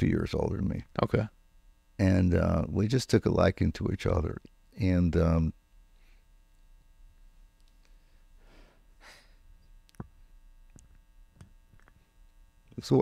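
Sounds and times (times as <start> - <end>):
mains hum: 0.0 - 13.0.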